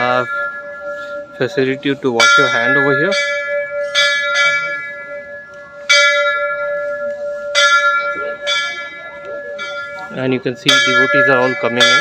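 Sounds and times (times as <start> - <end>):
temple bell ringing: 0.0 - 12.0.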